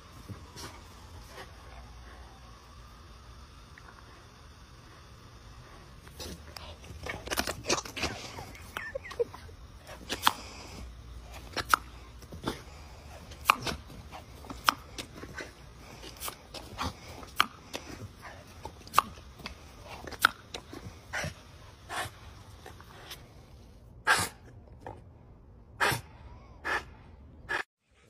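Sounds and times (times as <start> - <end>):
hose water spray hissing: 0.0 - 23.8.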